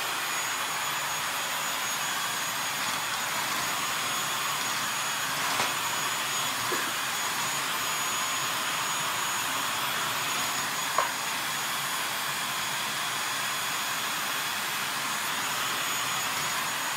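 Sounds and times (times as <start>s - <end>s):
stick vacuum cleaner running: 0.0s - 16.9s.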